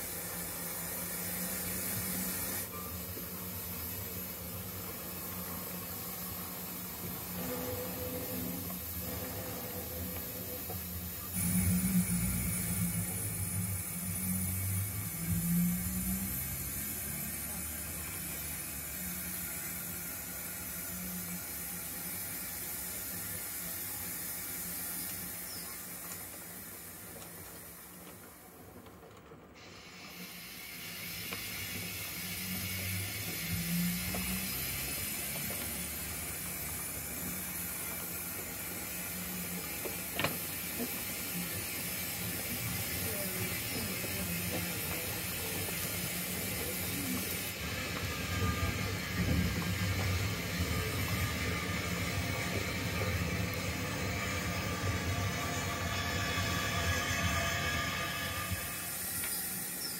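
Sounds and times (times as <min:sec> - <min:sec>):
model train mechanism running: 0:00.0 - 0:59.9
model train wheels clicking on rails: 0:00.0 - 0:59.9.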